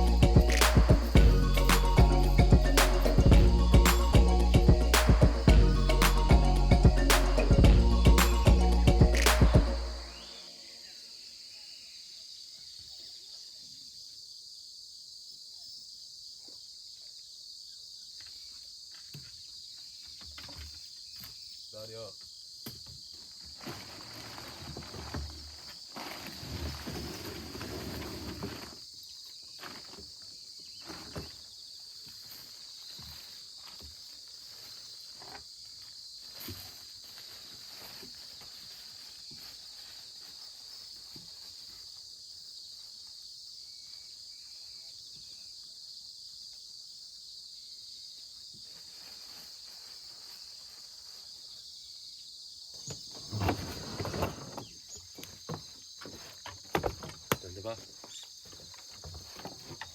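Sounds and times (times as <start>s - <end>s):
insect chorus chirring: 0.0s - 59.9s.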